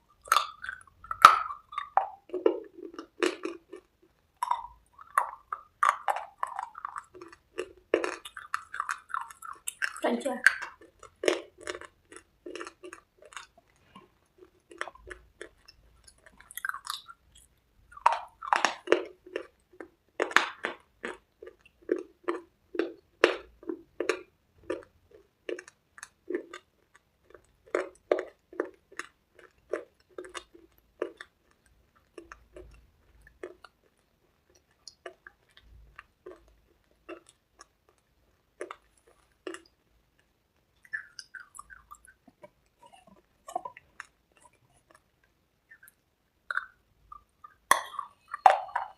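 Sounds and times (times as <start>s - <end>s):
chewing and crunching: 0.0s - 48.9s.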